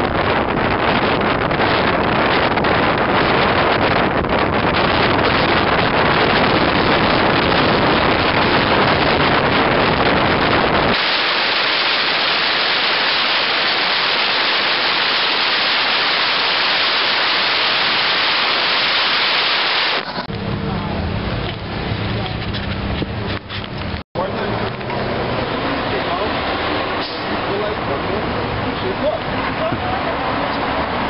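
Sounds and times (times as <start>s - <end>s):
deep rumble: 0.0s - 18.9s, 19.9s - 31.0s
loud steady rushing noise: 0.0s - 31.0s.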